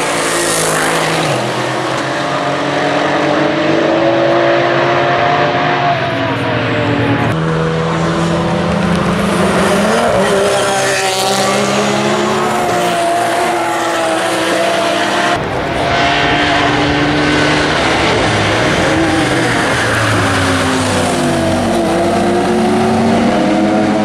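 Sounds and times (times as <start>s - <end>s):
racing cars passing at speed: 0.0s - 24.0s.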